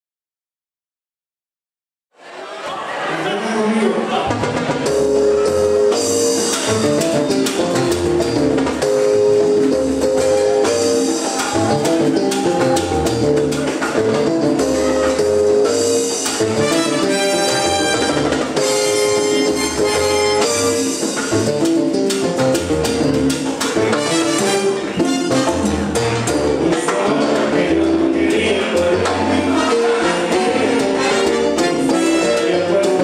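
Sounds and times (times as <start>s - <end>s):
timbales and congas: 4.2s - 33.0s
brass section playing: 4.9s - 33.0s.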